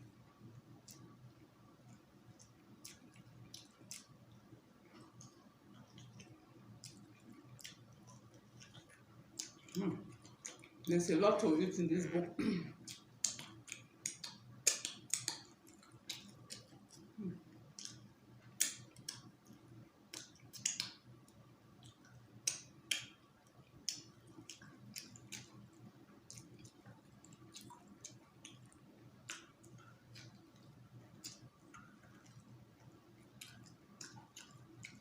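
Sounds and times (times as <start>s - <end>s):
lip smacks while chewing: 0.8s - 10.9s, 12.8s - 35.0s.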